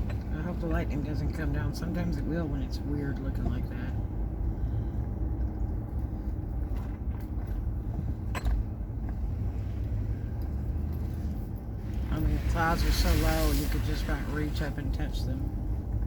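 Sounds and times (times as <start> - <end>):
vehicle rumbling while driven: 0.0 - 16.0.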